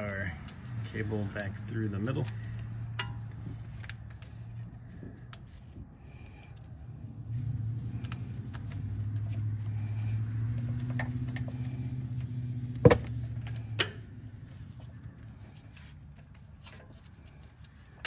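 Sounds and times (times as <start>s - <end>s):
motor vehicle hum: 0.0s - 18.0s.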